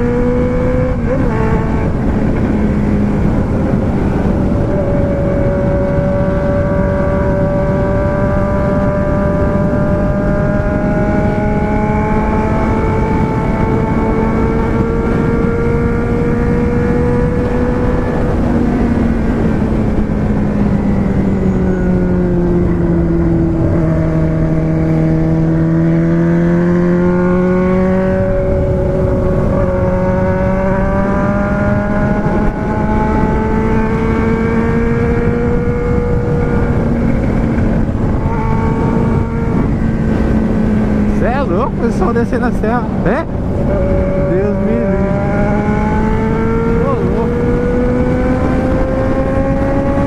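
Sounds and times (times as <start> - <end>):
engine running steadily: 0.0 - 50.0.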